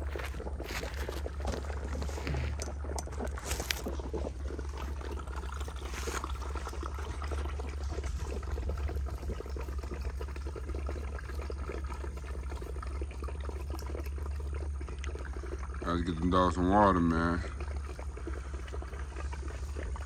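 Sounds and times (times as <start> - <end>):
puppies slurping and chewing: 0.0 - 20.0.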